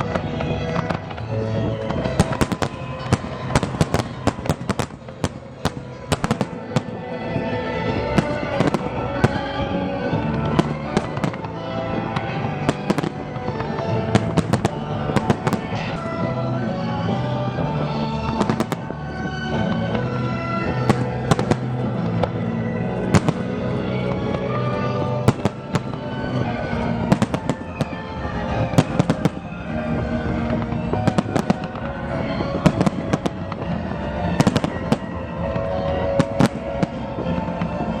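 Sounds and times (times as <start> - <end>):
fireworks bangs: 0.0 - 38.0
music playing: 0.0 - 38.0.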